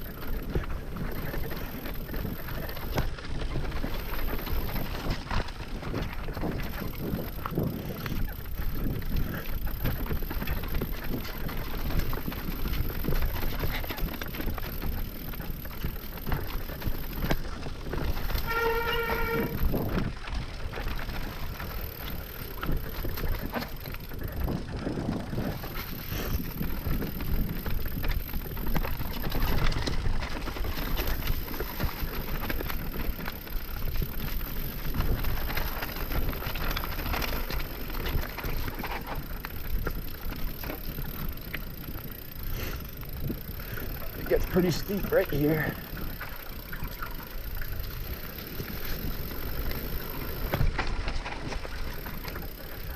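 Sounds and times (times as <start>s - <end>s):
bike knocks and rattles: 0.0s - 52.9s
bike tyres rolling on dirt: 0.0s - 52.9s.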